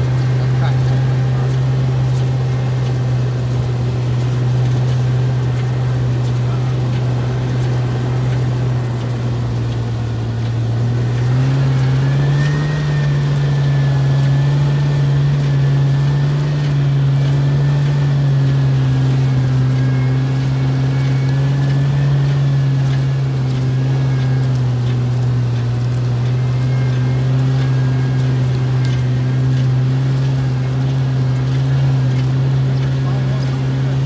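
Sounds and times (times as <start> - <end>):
car engine droning while driving: 0.0 - 34.0.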